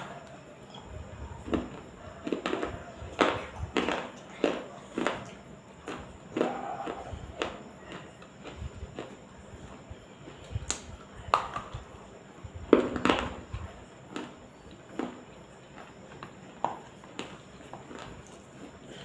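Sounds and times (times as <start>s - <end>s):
chewing with wet crunches: 0.0s - 19.0s.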